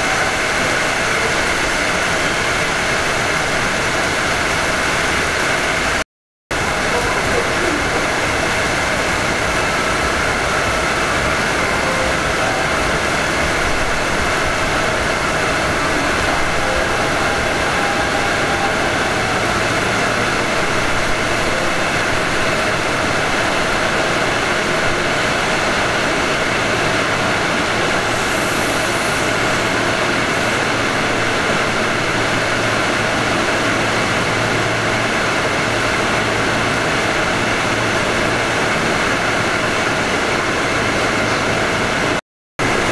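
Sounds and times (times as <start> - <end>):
electric train running: 0.0 - 6.0, 6.6 - 42.9.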